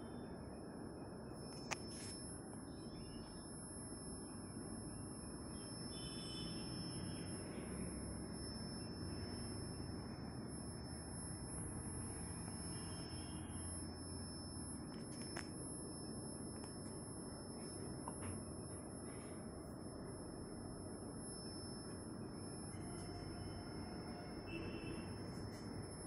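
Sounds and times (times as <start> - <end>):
high-pitched electronic whine: 0.0 - 26.0.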